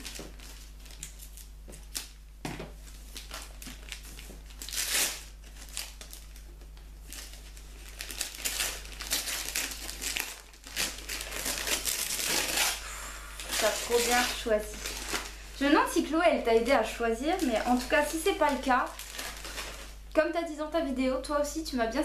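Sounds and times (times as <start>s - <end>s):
wrapping paper crinkling and tearing: 0.0s - 2.2s, 2.8s - 16.1s, 16.7s - 20.1s.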